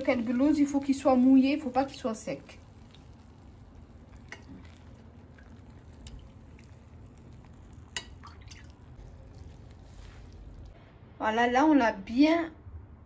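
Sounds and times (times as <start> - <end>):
syrup dripping: 0.0 - 10.8.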